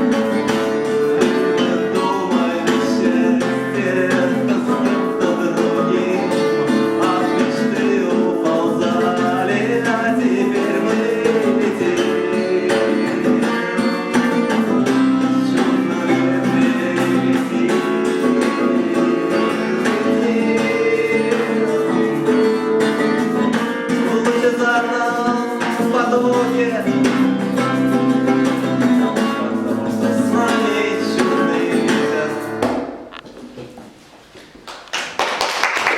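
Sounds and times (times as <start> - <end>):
acoustic guitar playing: 0.0 - 33.3.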